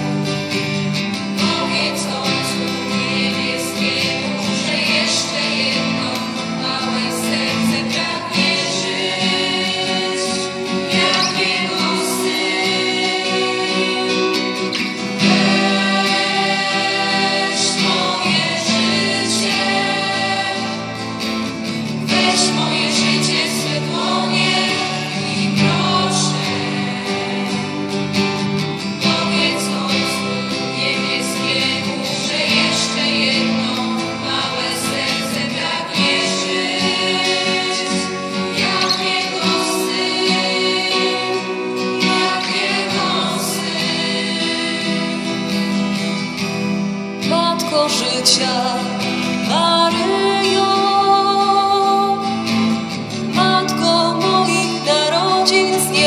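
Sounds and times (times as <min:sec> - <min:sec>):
acoustic guitars: 0:00.0 - 0:56.0
church choir singing: 0:00.0 - 0:56.0.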